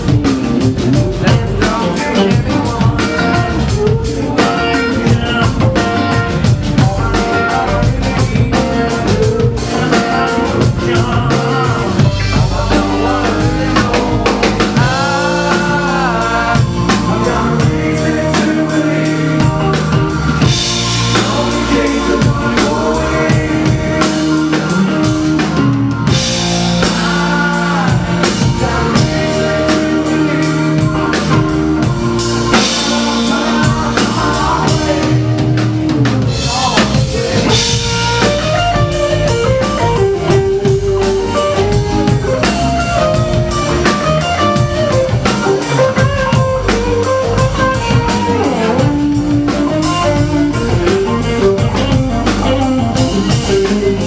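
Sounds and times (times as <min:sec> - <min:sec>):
drum kit steady beat: 0:00.0 - 0:54.0
electric guitars: 0:00.0 - 0:54.0
rock band playing: 0:00.0 - 0:54.0.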